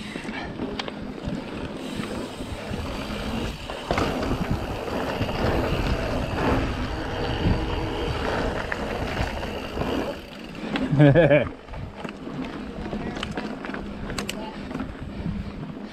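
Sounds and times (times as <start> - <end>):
bike tyres on dirt: 0.0 - 15.9
bike rattles and knocks: 0.2 - 15.2.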